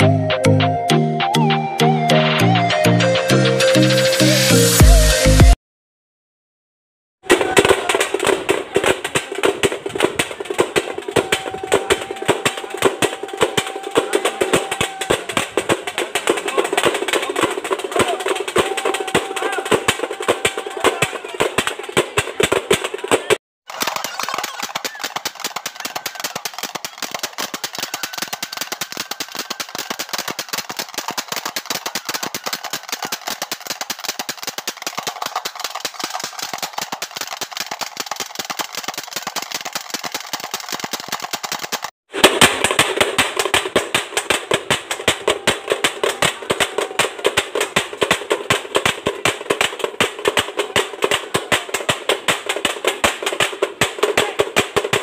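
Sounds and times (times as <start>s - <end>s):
fast drumming: 7.3s - 55.0s.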